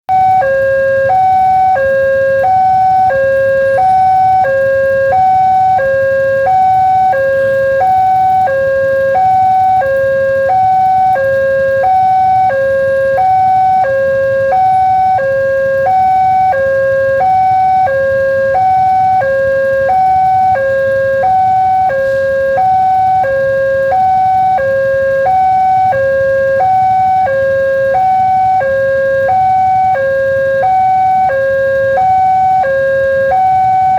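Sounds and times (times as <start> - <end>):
level crossing two-tone alarm: 0.1 - 33.9.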